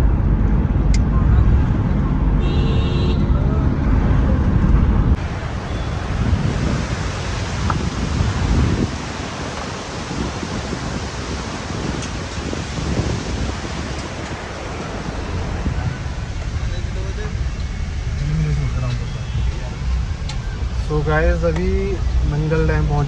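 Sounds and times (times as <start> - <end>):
car engine and road rumble: 0.0 - 23.0
steady outdoor rushing noise: 0.0 - 23.0.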